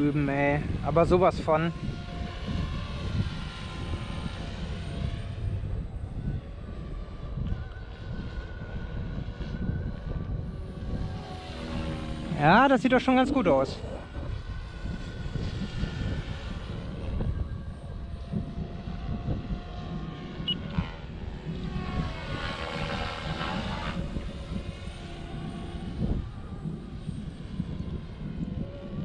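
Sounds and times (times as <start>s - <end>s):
rc helicopter rotor whine: 0.0s - 29.0s.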